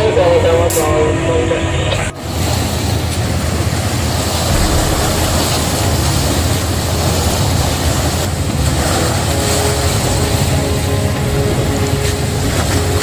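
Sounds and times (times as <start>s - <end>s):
seawater surging against steel hull: 2.2s - 13.0s.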